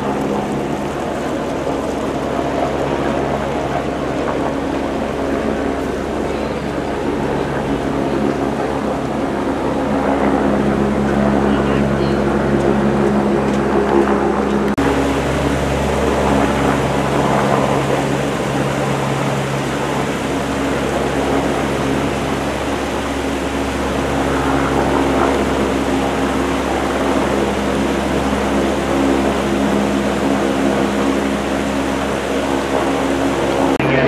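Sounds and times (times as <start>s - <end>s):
continuous rushing noise: 0.0s - 34.0s
engine running steadily: 0.0s - 34.0s.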